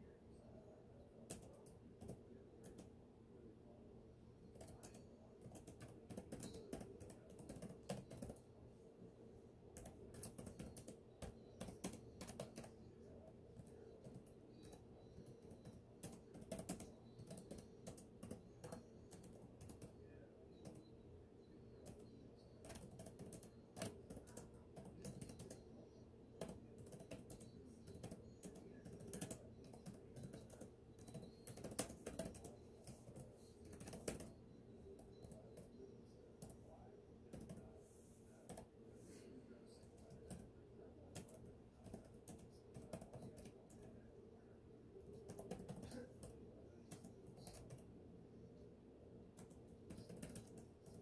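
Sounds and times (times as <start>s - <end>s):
faint keyboard typing: 0.5s - 3.0s, 4.3s - 8.6s, 9.6s - 51.0s.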